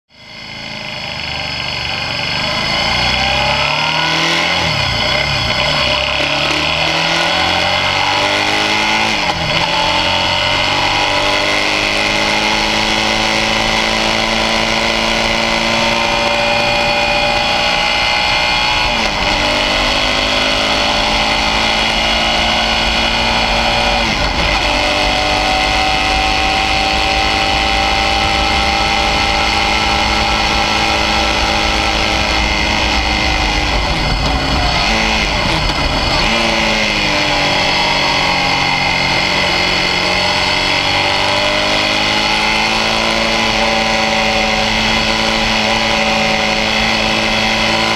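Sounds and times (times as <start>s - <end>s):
motorcycle engine revving: 0.1s - 47.9s.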